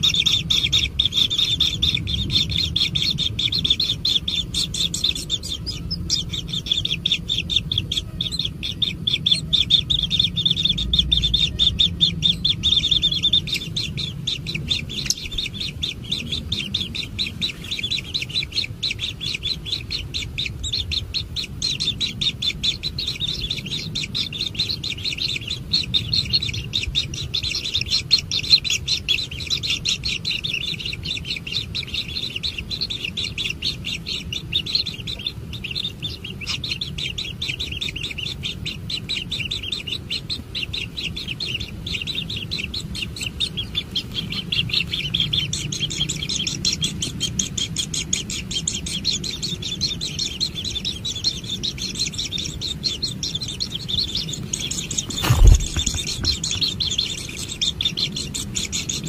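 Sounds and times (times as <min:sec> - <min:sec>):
nestlings begging high chirps: 0:00.0 - 0:59.0.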